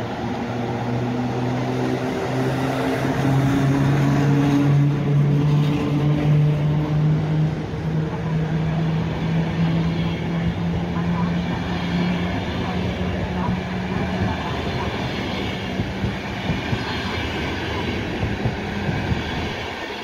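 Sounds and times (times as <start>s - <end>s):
train engine droning: 0.0s - 20.0s.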